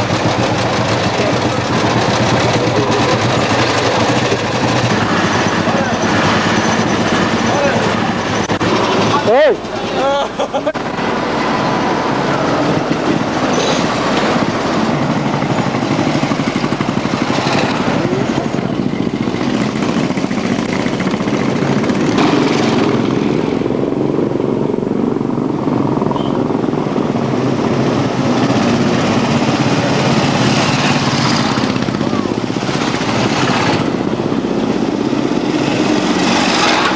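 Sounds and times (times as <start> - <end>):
motorcycle engines running: 0.0 - 36.9.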